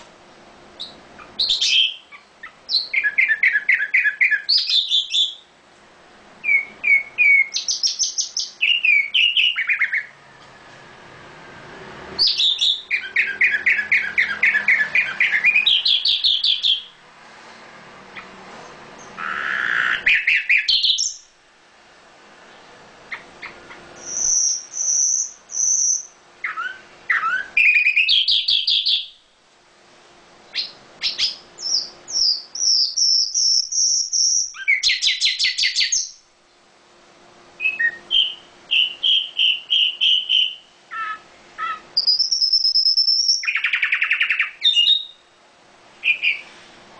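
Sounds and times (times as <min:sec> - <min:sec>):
songbird chirps and trills: 0:00.8 - 0:05.6, 0:06.4 - 0:10.8, 0:12.1 - 0:17.0, 0:18.2 - 0:21.3, 0:22.4 - 0:29.2, 0:30.5 - 0:36.7, 0:37.6 - 0:45.4, 0:46.0 - 0:46.6.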